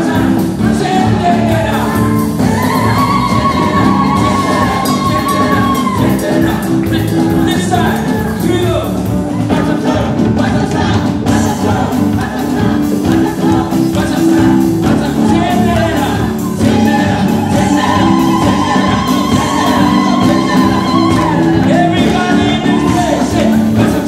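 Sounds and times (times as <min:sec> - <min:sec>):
congregation singing with band: 0:00.0 - 0:24.0.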